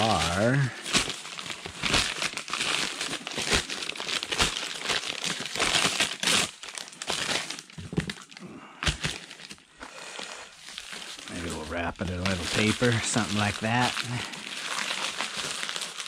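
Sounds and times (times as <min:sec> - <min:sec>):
packing paper crinkling: 0:00.0 - 0:16.0.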